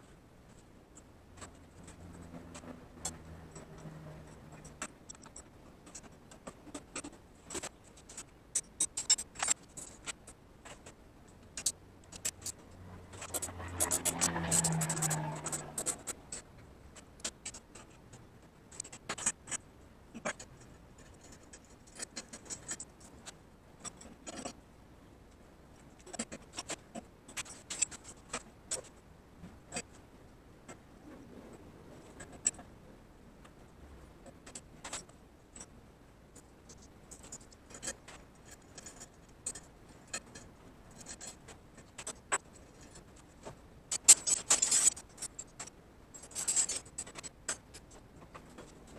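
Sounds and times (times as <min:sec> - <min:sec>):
light clicks taps and scrapes: 0:00.0 - 0:24.6, 0:25.3 - 0:32.7, 0:33.4 - 0:35.7, 0:36.3 - 0:48.9.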